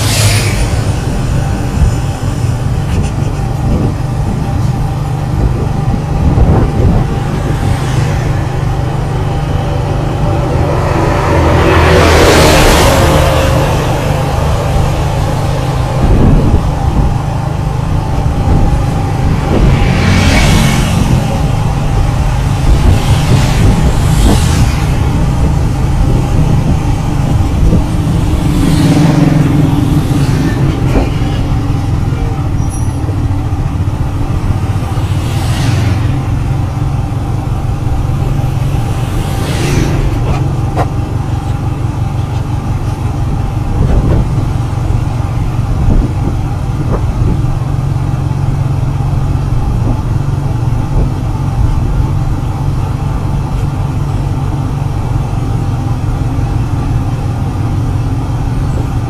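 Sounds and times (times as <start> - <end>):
vehicle engine and road noise: 0.0 - 59.0
vehicles whooshing past: 0.0 - 59.0.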